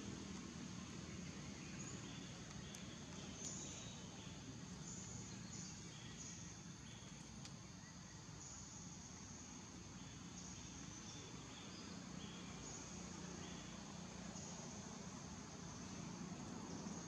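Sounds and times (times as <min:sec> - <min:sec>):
insects buzzing: 0:00.0 - 0:17.0
steady background hiss: 0:00.0 - 0:17.0.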